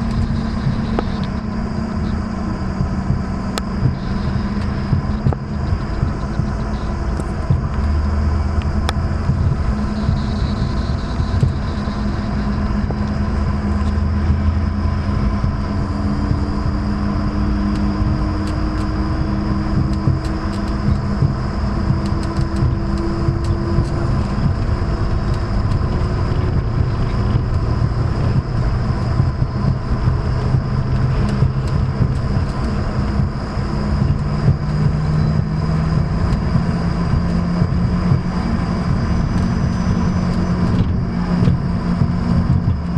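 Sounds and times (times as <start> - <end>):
jet engines rumbling and whining: 0.0 - 42.9.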